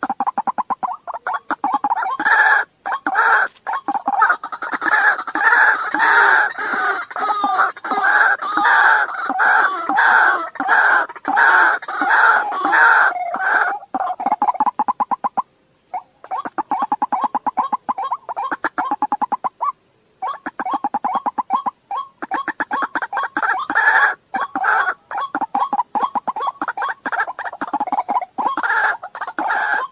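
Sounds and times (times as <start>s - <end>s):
waterhen calling: 0.0s - 29.9s.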